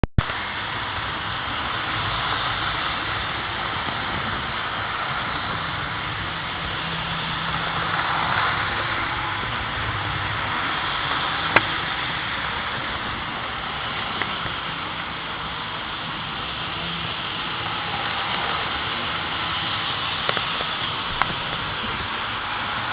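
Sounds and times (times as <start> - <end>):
model train motor and wheels rumbling: 0.2 - 22.9.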